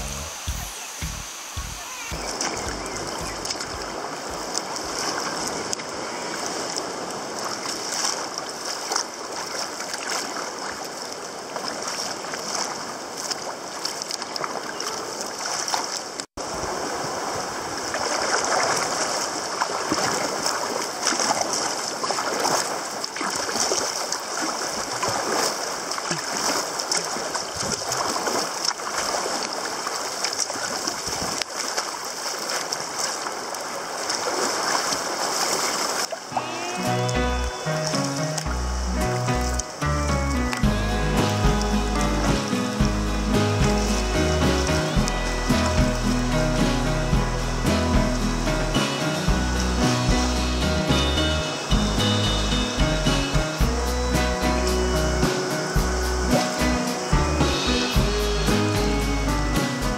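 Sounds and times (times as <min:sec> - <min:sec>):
water splashing against kayak hull: 0:00.0 - 0:59.9.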